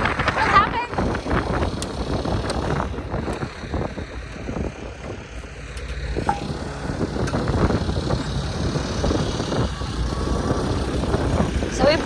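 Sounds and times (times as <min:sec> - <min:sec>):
vehicle engine rumble: 0:00.0 - 0:12.0
wind buffeting microphone: 0:00.0 - 0:12.0.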